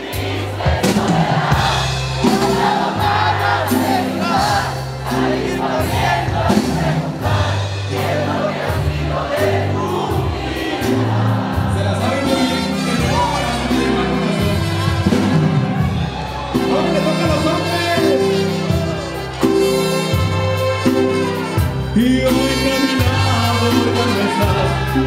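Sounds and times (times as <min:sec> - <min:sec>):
crowd noise: 0:00.0 - 0:25.0
live band with singing: 0:00.0 - 0:25.0.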